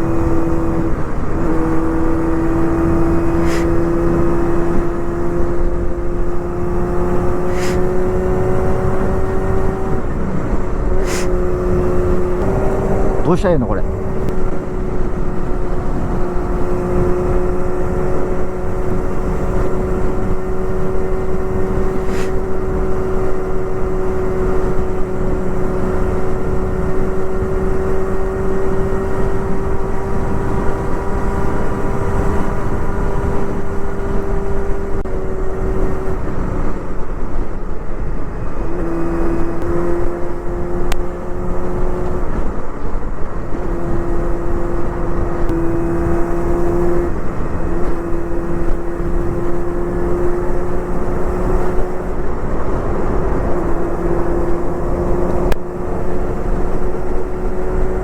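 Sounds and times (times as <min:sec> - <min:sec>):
motorcycle engine at high revs: 0:00.0 - 0:58.0
wind noise: 0:00.0 - 0:58.0.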